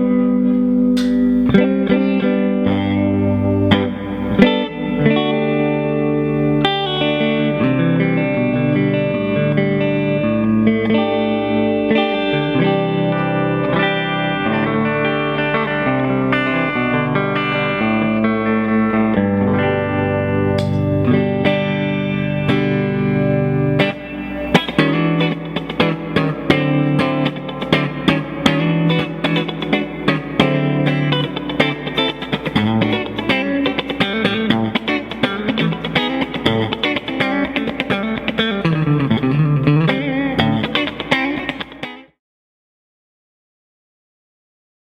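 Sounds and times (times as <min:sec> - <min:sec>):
electric guitar chords: 0:00.0 - 0:42.2.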